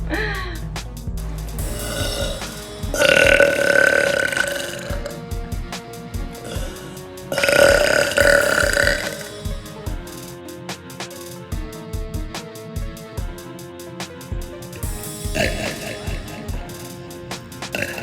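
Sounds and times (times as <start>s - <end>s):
background music with a beat: 0.0s - 18.0s.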